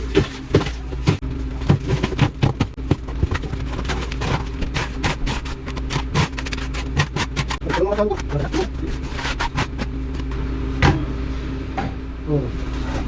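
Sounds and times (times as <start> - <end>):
sharp knocks and scrapes: 0.0 - 11.0
motor humming: 0.0 - 13.0.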